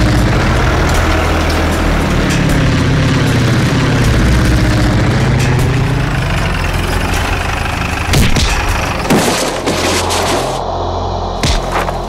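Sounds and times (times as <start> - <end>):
motor engine running: 0.0 - 10.6.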